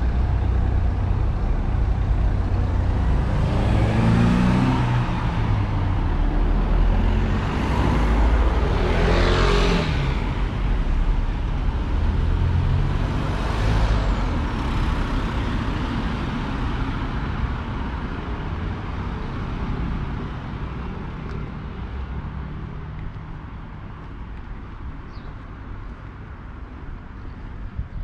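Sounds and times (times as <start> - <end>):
cars passing: 0.0 - 28.0
road traffic noise: 0.0 - 28.0.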